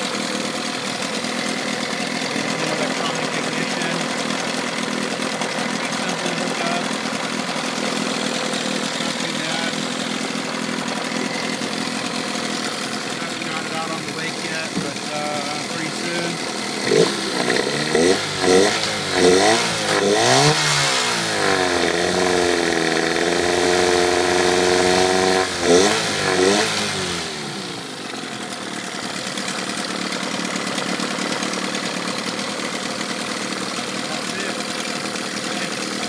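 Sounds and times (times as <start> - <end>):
outboard engine revving and idling: 0.0 - 36.0.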